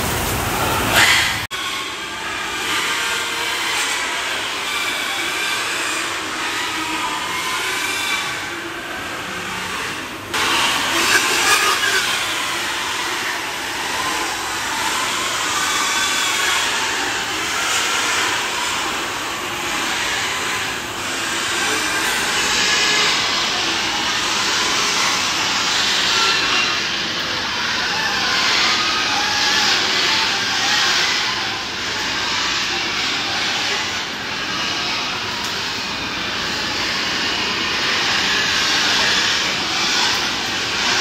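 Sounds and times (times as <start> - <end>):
pigs squealing: 0.0 - 41.0.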